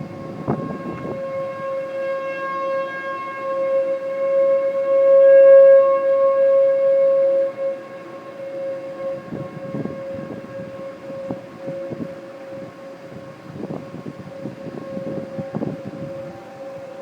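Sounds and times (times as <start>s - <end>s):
tornado siren wailing: 0.0s - 17.0s.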